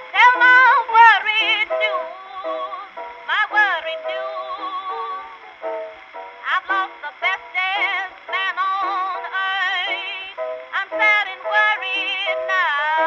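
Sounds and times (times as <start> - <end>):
sliding melody line: 0.0 - 13.0.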